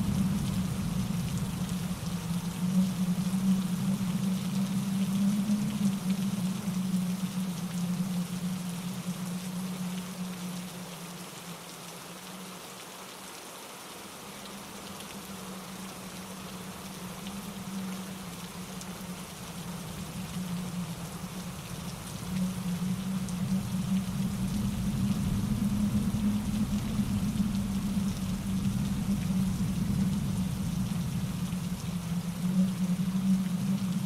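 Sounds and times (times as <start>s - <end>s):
rain falling through trees: 0.0s - 34.0s
stream rushing over rocks: 0.0s - 34.0s
wind in branches: 0.0s - 34.0s.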